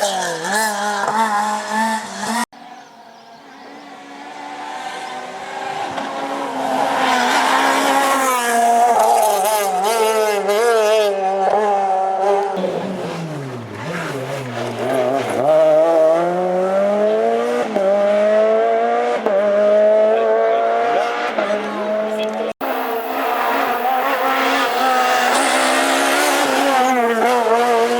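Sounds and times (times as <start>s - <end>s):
rally car engine revving: 3.8s - 27.9s.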